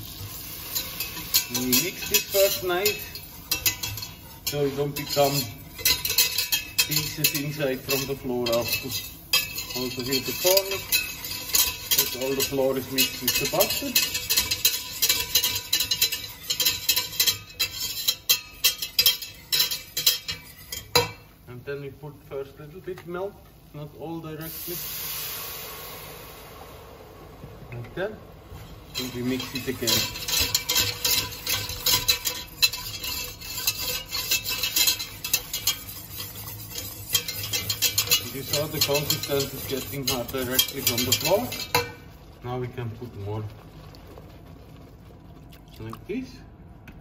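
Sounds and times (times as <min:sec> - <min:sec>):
whisk scraping a metal pot: 0:00.0 - 0:21.3, 0:28.5 - 0:45.9.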